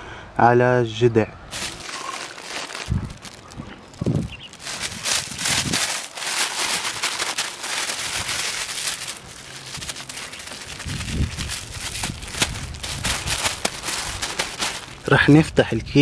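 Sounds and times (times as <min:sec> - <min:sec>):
plastic bag crinkling: 0:01.5 - 0:15.5.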